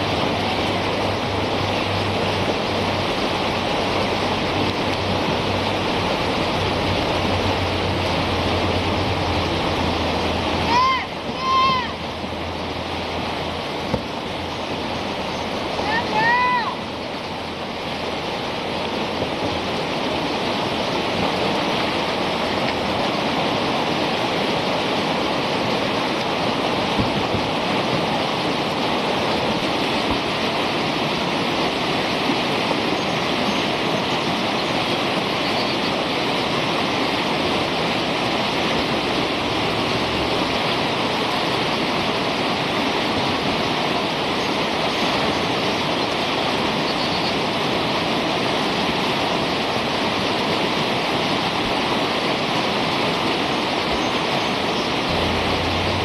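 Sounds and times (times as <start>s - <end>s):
whitewater rapids rushing: 0.0s - 56.0s.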